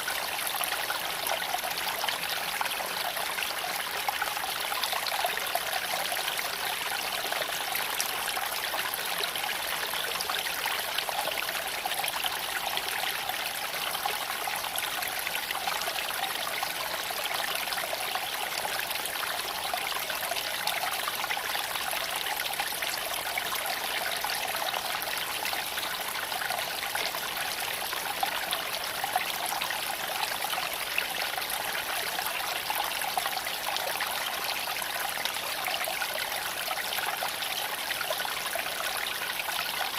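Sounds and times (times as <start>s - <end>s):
creek trickling over stones: 0.0s - 39.9s.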